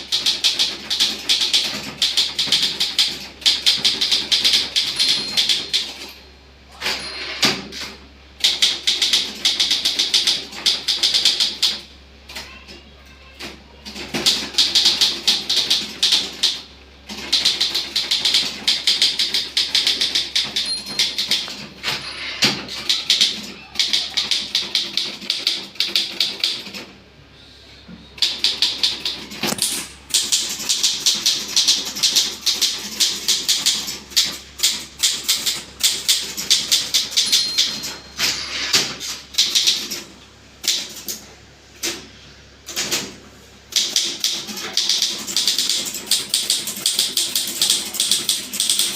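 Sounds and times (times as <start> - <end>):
manual typewriter typing: 0.0 - 6.2, 6.8 - 11.9, 13.4 - 26.9, 28.2 - 41.2, 42.7 - 48.9.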